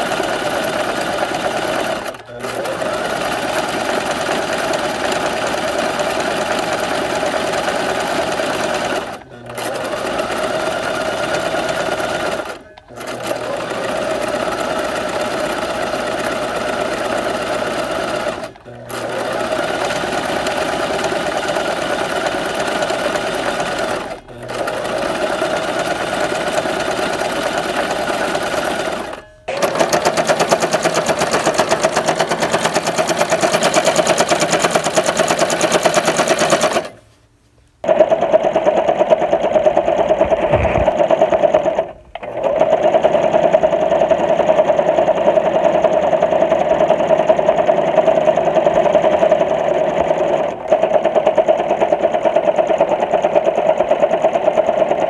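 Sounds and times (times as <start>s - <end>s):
sewing machine running: 0.0s - 37.0s, 37.8s - 55.0s.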